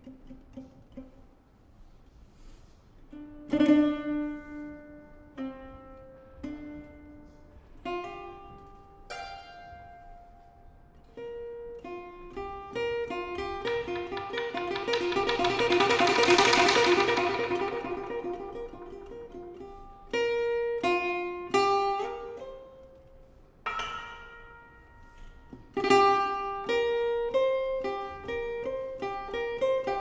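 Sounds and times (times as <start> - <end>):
plucked lute notes: 0.0 - 1.6, 3.1 - 30.0.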